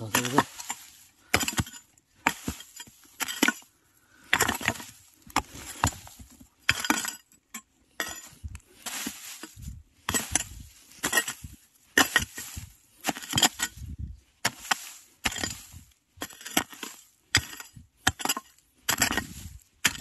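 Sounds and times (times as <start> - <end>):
hoe chopping into stony soil: 0.0 - 7.3, 8.0 - 20.0.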